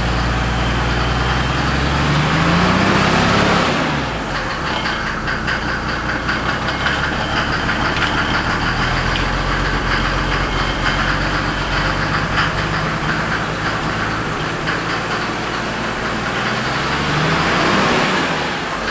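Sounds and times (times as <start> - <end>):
diesel engine idling with knocking: 0.0 - 18.9.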